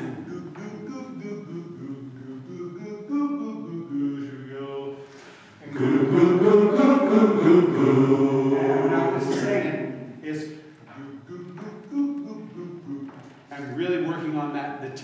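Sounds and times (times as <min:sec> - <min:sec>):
men's chorus singing held notes: 0:00.0 - 0:10.2, 0:10.8 - 0:13.5.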